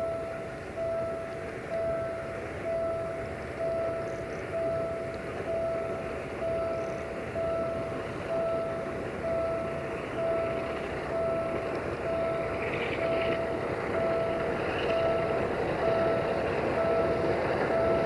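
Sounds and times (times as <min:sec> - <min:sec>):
distant freight train rumbling: 0:00.0 - 0:18.0
electronic warning beeper: 0:00.0 - 0:18.0.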